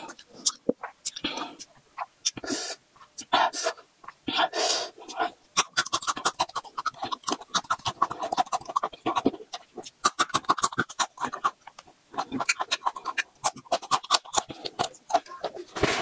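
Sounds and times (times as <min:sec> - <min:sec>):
crunchy chewing: 0:00.0 - 0:03.4, 0:04.0 - 0:16.0
wet mouth clicks: 0:00.0 - 0:15.6.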